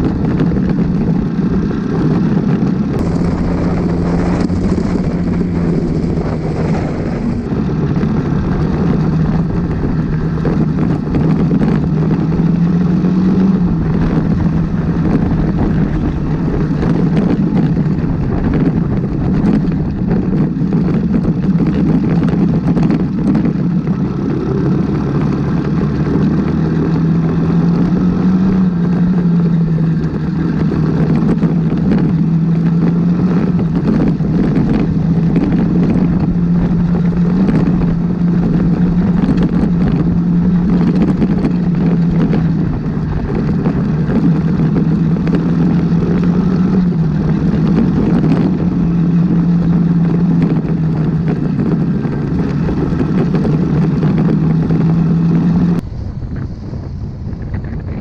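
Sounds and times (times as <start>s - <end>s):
motorcycle engine running: 0.0s - 58.0s
road and air noise: 0.0s - 58.0s.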